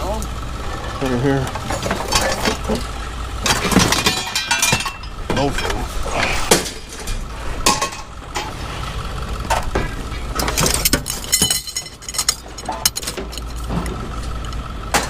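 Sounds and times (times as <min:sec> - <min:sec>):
scrap metal clanking: 0:00.6 - 0:14.4.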